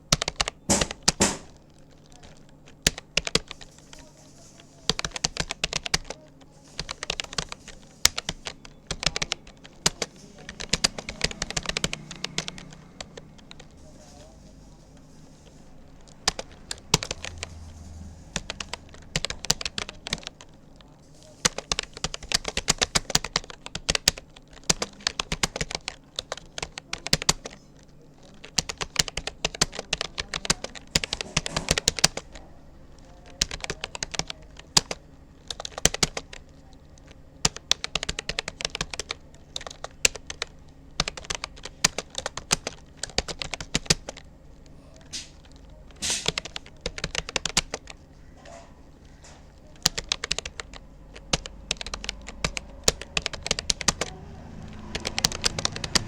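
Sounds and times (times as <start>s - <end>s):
keyboard keystroke clicks: 0.1s - 4.1s, 4.9s - 14.3s, 15.8s - 32.4s, 33.0s - 56.0s.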